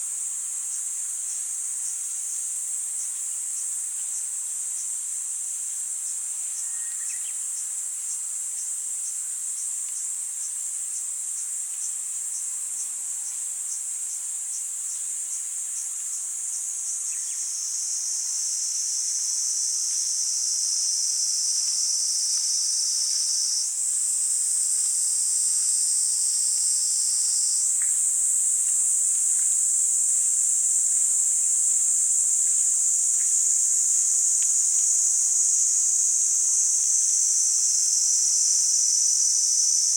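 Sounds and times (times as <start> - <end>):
cicadas buzzing: 5.8 - 39.9.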